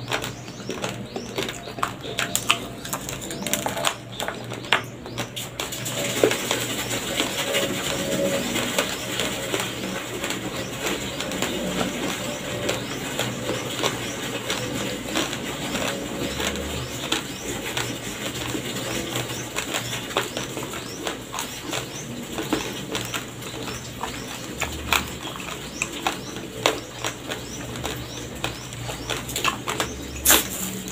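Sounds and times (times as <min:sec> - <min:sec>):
raw rice crunching being chewed: 0:00.0 - 0:30.9.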